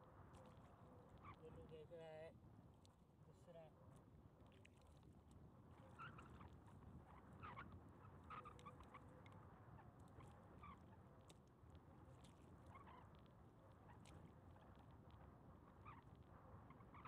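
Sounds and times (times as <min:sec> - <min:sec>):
faint low outdoor rumble: 0:00.0 - 0:17.0.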